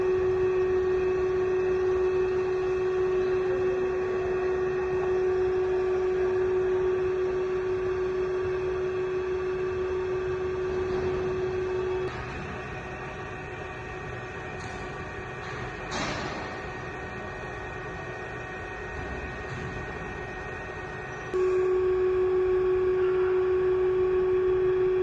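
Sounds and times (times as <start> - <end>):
band saw humming with strong tone: 0.0 - 25.0
quiet steady machine noise: 0.0 - 25.0.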